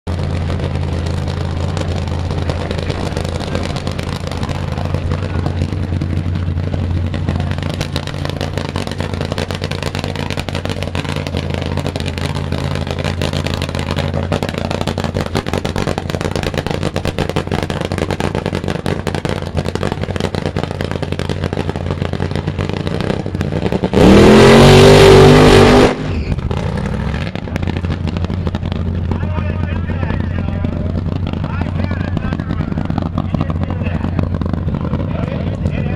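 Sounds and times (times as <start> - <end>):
engine idling and revving: 0.0 - 35.9.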